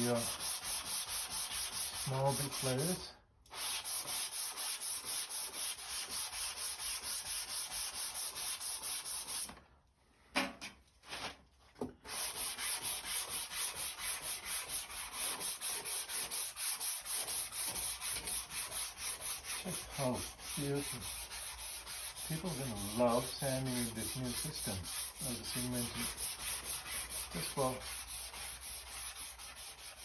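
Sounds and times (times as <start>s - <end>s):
sandpaper rubbing on primer: 0.0s - 9.5s, 12.1s - 30.0s.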